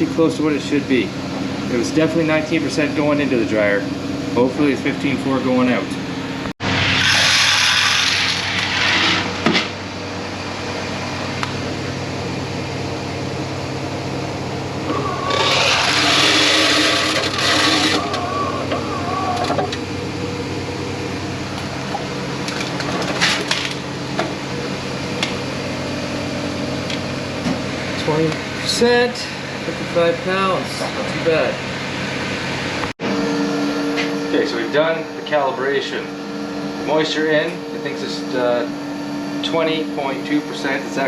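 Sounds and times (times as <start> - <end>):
machinery humming: 0.0 - 41.0.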